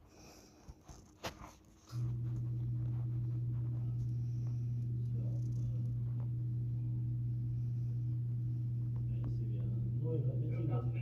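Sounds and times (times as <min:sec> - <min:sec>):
loud steady low hum: 0:01.9 - 0:11.0.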